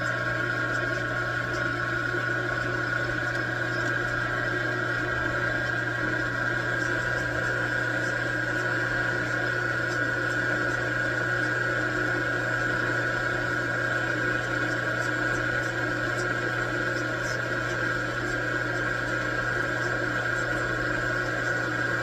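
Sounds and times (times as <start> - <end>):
metal lathe running: 0.0 - 22.0.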